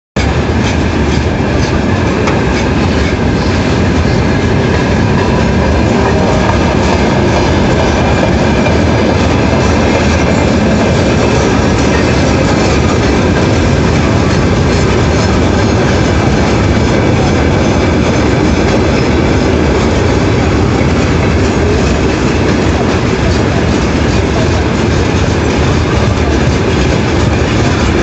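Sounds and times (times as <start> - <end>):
train rolling rumble: 0.2 - 28.0
wheels clacking over rail joints: 0.2 - 28.0.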